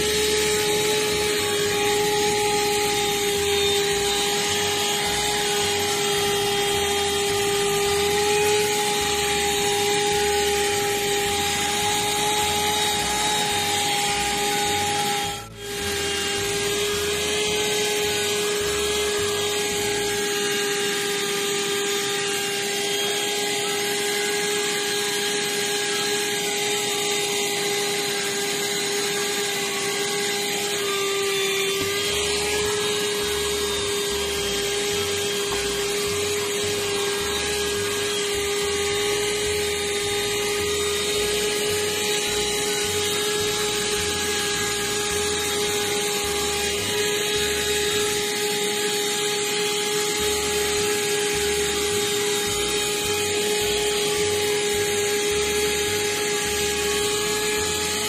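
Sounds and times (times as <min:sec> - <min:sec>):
vacuum cleaner high whine: 0:00.0 - 0:58.0.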